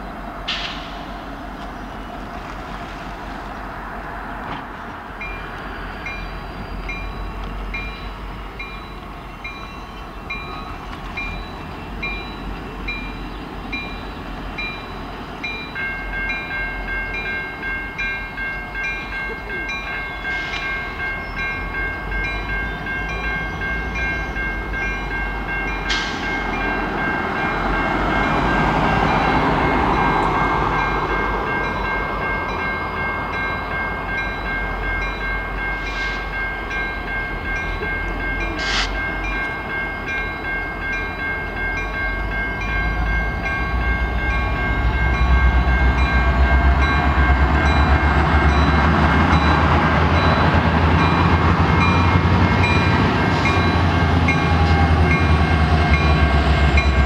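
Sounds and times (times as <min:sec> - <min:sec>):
diesel locomotive engine rumble: 0:00.0 - 0:57.0
crossing warning bell ringing: 0:05.1 - 0:57.0.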